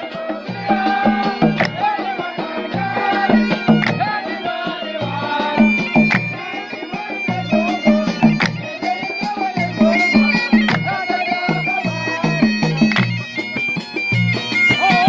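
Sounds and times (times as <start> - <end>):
wavering melody: 0.0 - 15.0.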